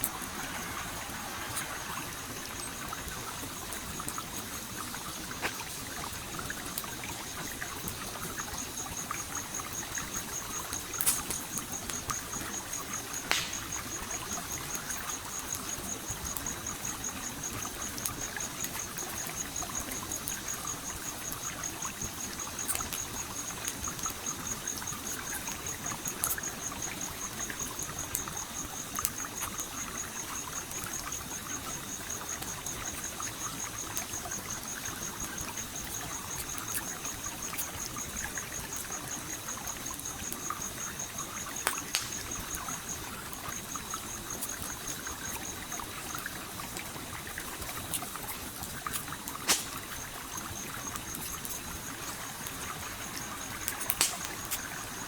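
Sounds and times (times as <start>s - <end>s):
campfire popping and cracking: 0.0s - 55.0s
stream trickling: 0.0s - 55.0s.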